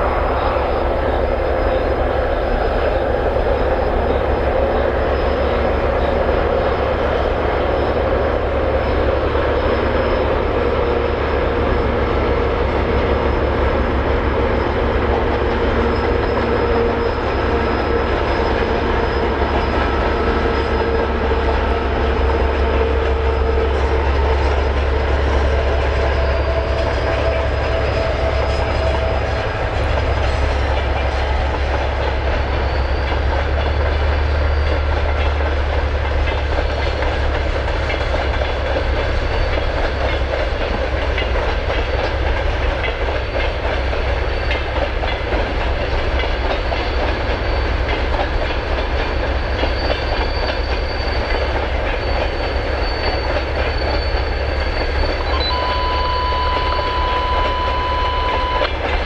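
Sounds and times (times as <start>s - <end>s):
train rolling low rumble: 0.0s - 59.0s
train wheels clicking over rail joints: 0.0s - 59.0s.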